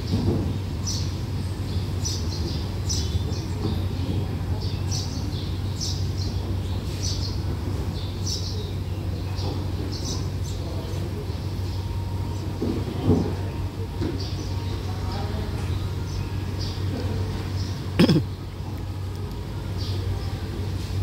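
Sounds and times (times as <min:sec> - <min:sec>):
small birds chirping: 0:00.0 - 0:12.6, 0:13.2 - 0:21.0.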